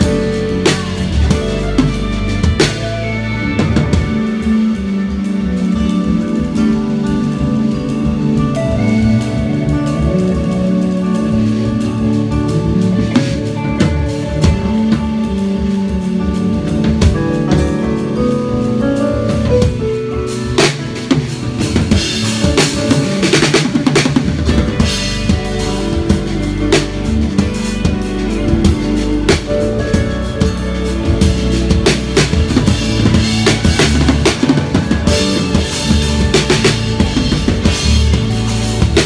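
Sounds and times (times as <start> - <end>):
drum kit: 0.0 - 39.0
held keyboard chords: 0.0 - 39.0
live band playing: 0.0 - 39.0.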